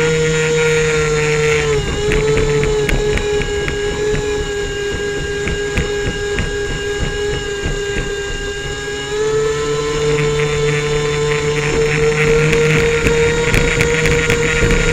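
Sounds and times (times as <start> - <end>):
airboat engine and propeller droning: 0.0 - 14.9.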